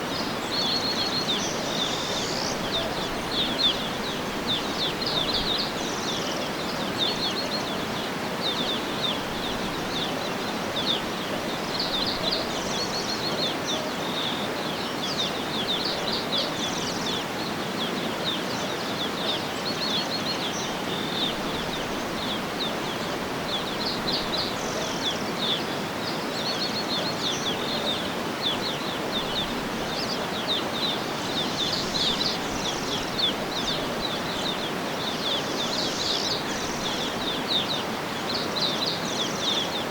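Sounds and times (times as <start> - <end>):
birds chirping: 0.0 - 39.9
outdoor ambience hiss: 0.0 - 39.9.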